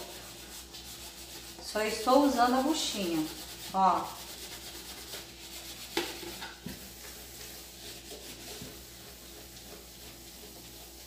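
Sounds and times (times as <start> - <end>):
sponge scrubbing pot lid: 0.0 - 11.0.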